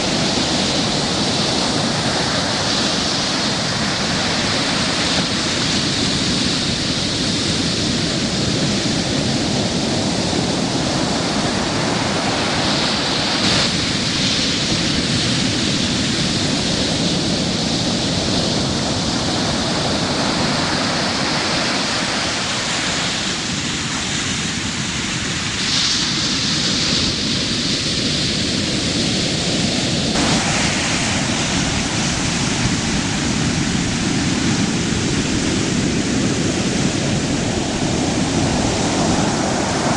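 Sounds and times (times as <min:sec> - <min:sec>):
heavy surf breaking: 0:00.0 - 0:39.9.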